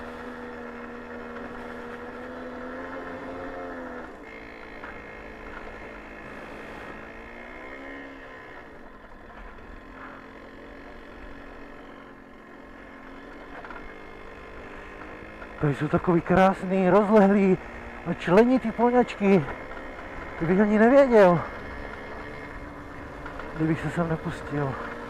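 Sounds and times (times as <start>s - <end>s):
moped engine running: 0.0s - 25.0s.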